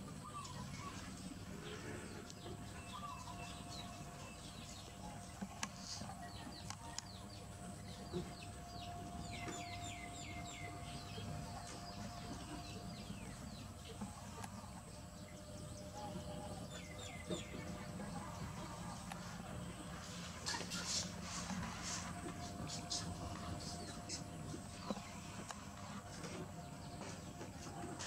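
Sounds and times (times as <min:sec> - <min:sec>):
low hum: 0:00.0 - 0:28.0
small birds chirping: 0:00.0 - 0:28.0.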